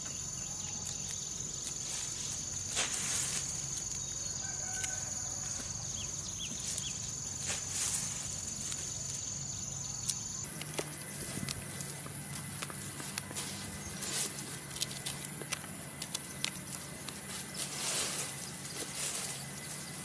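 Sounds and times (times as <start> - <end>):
insects droning: 0.0 - 20.0
leafy plants rustling: 0.0 - 20.0.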